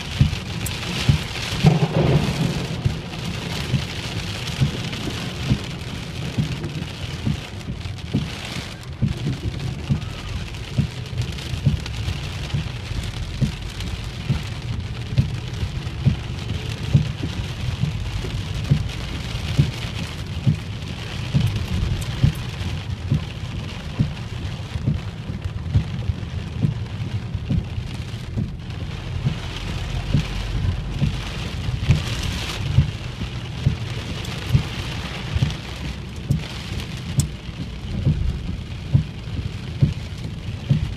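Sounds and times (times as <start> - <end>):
heavy rain on car roof: 0.0 - 40.9
heavy raindrop thuds: 0.0 - 40.9.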